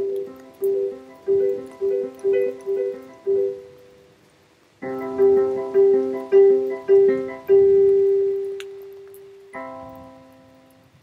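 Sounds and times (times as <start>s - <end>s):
keyboard instrument notes: 0.0s - 4.0s, 4.8s - 11.0s.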